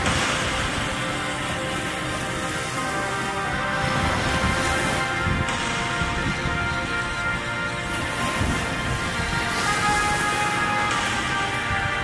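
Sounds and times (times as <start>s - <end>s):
soft sustained music tones: 0.0s - 12.0s
steady hiss: 0.0s - 12.0s.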